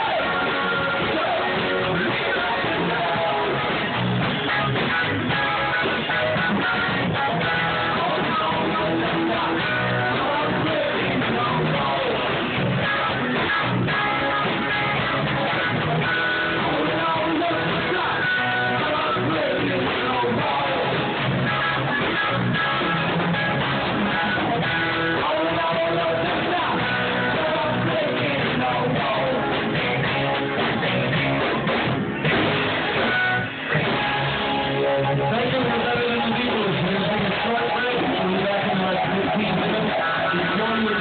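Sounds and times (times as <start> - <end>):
electric guitar: 0.0 - 41.0
live rock band playing: 0.0 - 41.0.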